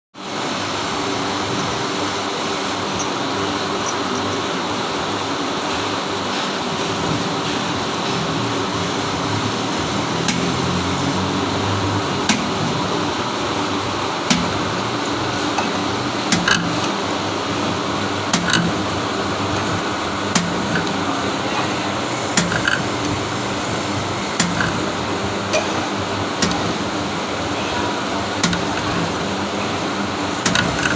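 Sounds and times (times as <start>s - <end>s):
metalworking machine running: 0.2s - 30.9s.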